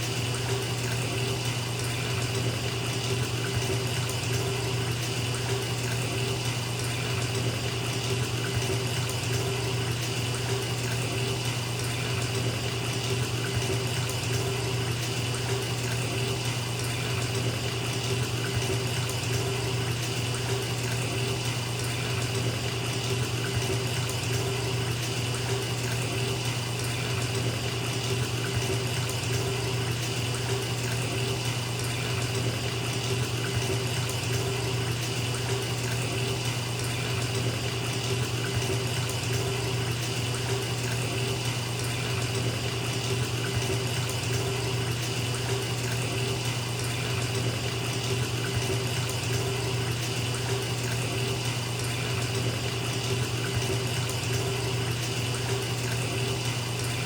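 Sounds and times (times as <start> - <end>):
water running into bathtub: 0.0 - 57.0.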